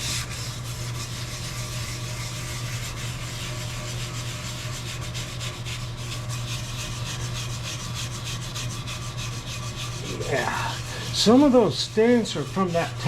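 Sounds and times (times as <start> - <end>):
wire brush scrubbing metal: 0.0 - 13.0.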